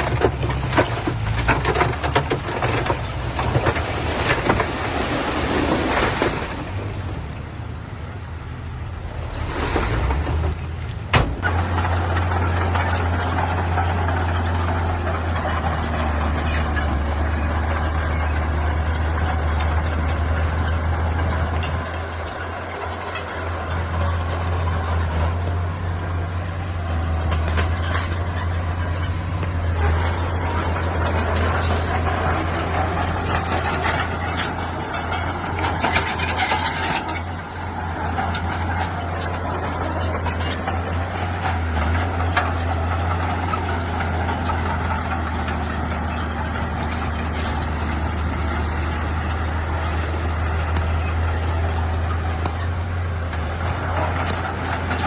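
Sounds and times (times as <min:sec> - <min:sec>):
diesel machinery droning: 0:00.0 - 0:55.0
metallic clanks: 0:08.7 - 0:55.0.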